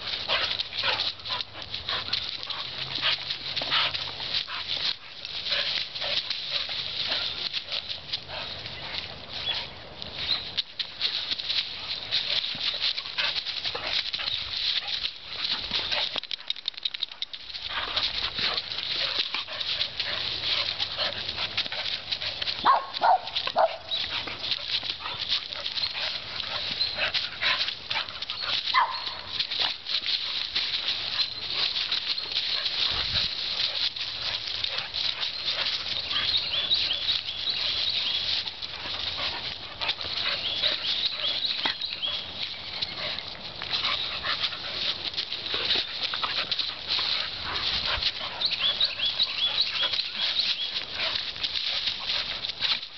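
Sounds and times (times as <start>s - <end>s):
leaves crackling under paws: 0.0s - 52.9s.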